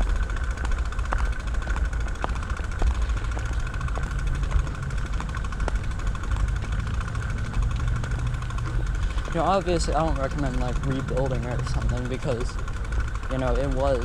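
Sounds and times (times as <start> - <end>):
bicycle road noise: 0.0 - 14.0
faint steady hum: 0.0 - 14.0
light clicks and rattles: 0.0 - 14.0
wind rumble: 0.0 - 14.0.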